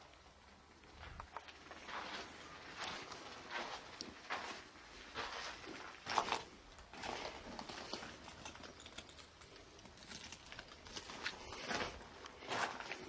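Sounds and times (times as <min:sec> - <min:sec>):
footstep scuffs and rustles: 0:00.8 - 0:08.8, 0:09.8 - 0:13.0.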